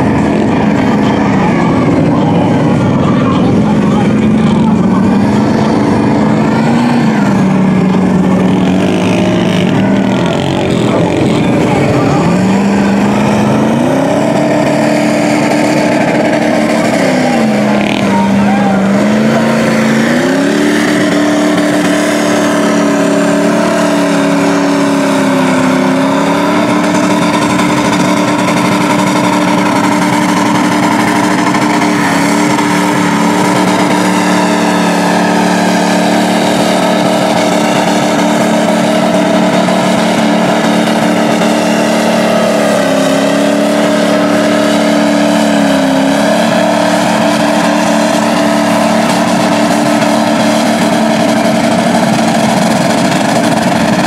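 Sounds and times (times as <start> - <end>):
truck engine at high revs: 0.0 - 54.0.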